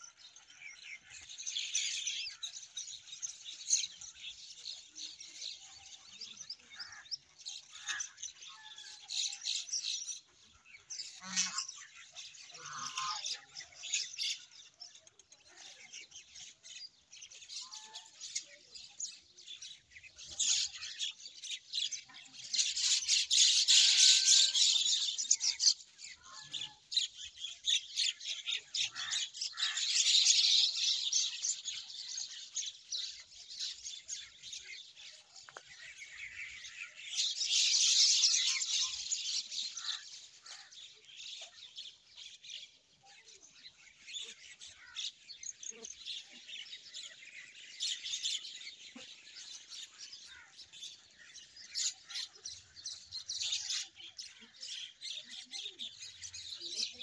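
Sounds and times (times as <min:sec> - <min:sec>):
small birds chirping and chattering: 0:00.0 - 0:57.0.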